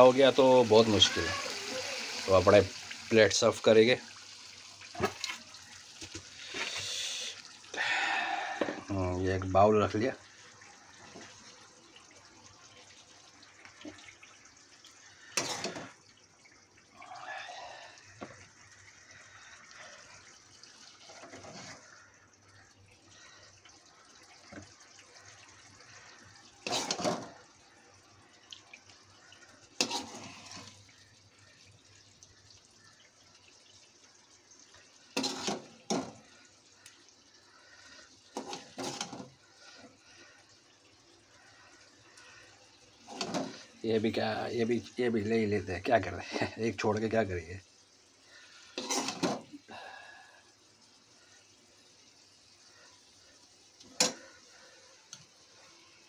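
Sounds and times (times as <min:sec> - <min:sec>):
wet gravy sounds: 0:00.0 - 0:56.0.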